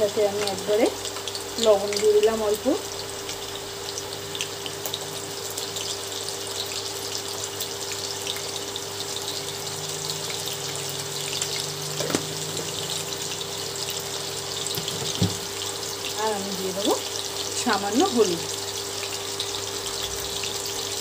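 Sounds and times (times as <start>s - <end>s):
potatoes sizzling in oil: 0.0s - 21.0s.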